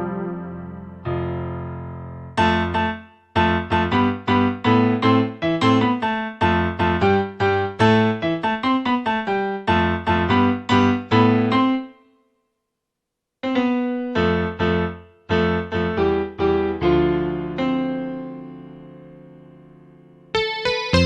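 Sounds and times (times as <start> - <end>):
electronic keyboard chords: 0.0 - 12.0, 13.4 - 21.0.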